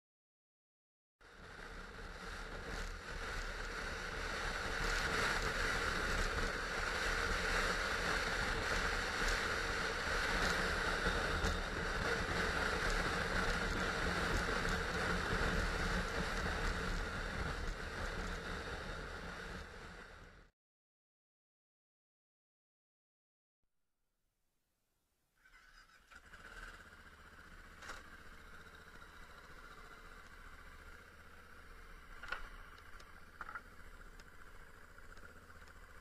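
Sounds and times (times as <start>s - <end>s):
motorcycle engine drone: 1.2s - 20.5s, 25.4s - 36.0s.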